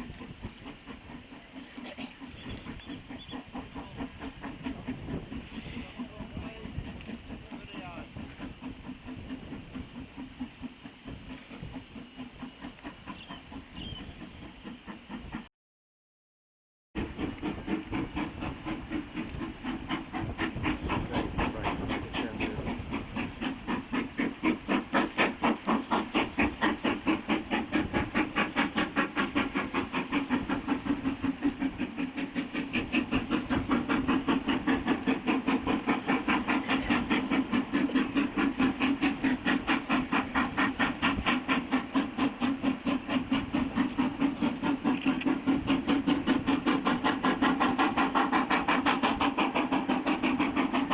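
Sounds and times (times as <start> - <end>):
steam locomotive exhaust beats: 0.0 - 15.5, 17.0 - 50.9.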